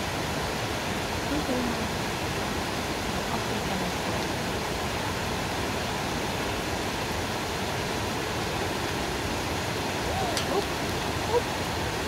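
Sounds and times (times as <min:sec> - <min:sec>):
creek cascading over boulders: 0:00.0 - 0:12.0.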